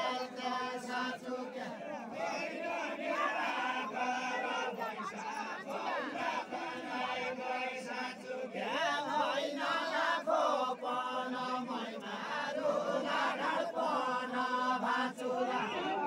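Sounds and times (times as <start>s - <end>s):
men singing together: 0.0s - 16.0s.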